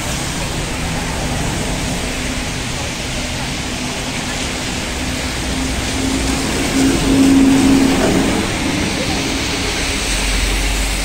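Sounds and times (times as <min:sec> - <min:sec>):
trolleybus electric hum: 0:00.0 - 0:11.0
tyres hissing on wet road: 0:00.0 - 0:11.0.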